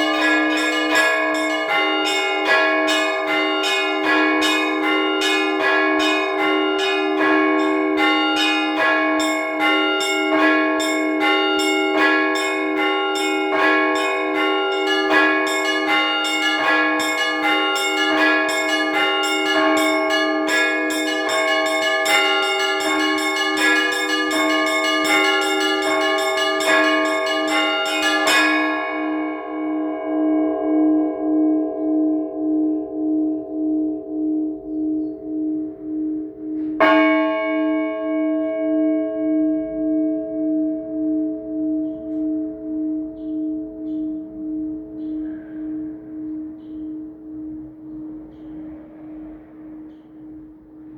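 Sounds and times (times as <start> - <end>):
large bell low tone: 0.0 - 50.9
small church bells ringing: 0.0 - 50.9.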